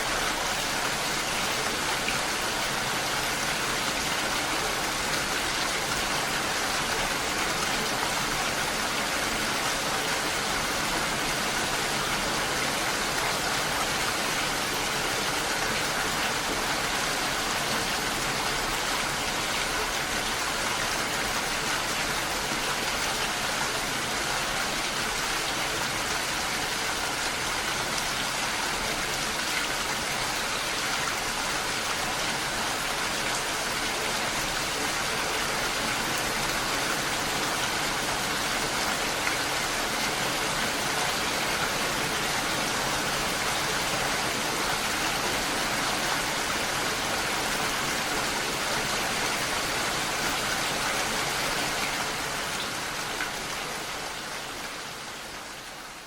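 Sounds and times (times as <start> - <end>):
rain falling: 0.0 - 56.0
waterfall rushing: 0.0 - 56.0.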